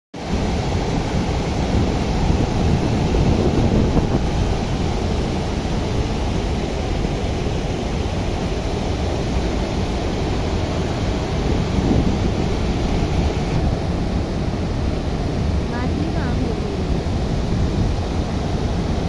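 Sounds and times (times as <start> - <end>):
water rushing over weir: 0.2 - 19.0.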